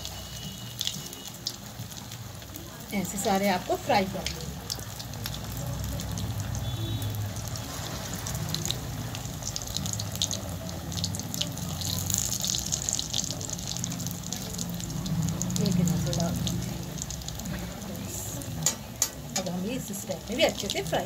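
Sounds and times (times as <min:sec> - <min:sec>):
bread deep-frying in oil: 0:00.0 - 0:21.0.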